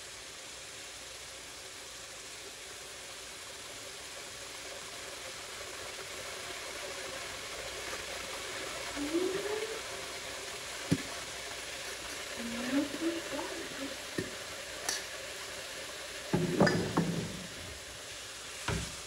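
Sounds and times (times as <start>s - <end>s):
pan simmering and sizzling: 0.0s - 19.0s.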